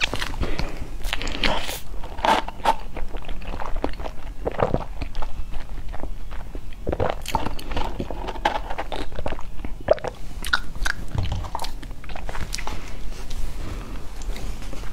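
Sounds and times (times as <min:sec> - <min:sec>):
person crunching food: 0:00.0 - 0:14.9.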